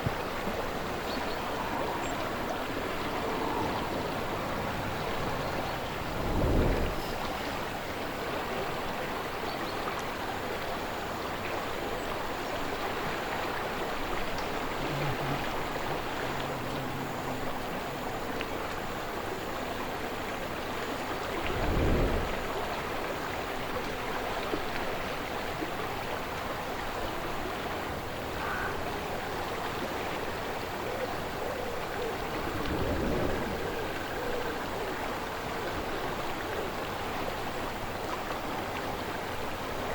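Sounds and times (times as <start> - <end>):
low gusts of wind: 0.0 - 39.9
river flowing: 0.0 - 39.9.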